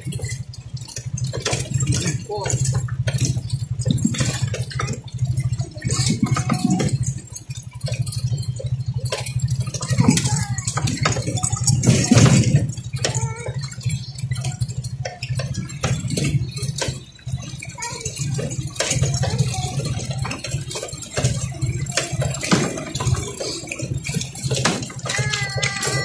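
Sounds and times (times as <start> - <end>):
motorcycle engine running: 0.0 - 26.0
rattles and knocks from bumps: 0.0 - 26.0.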